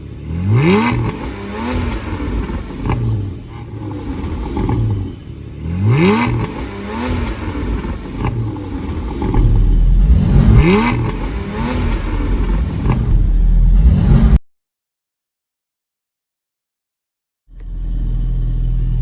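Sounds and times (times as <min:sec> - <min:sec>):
sports car engine idling and revving: 0:00.0 - 0:14.4, 0:17.5 - 0:19.0.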